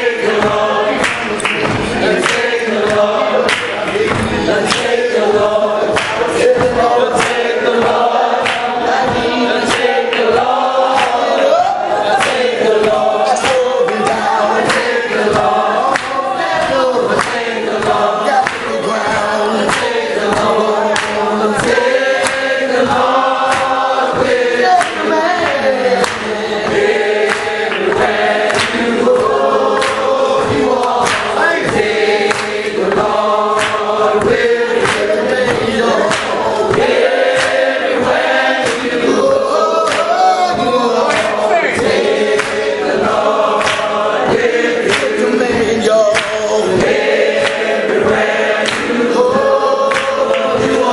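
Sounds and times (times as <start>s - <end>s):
congregation singing a hymn: 0.0s - 50.9s.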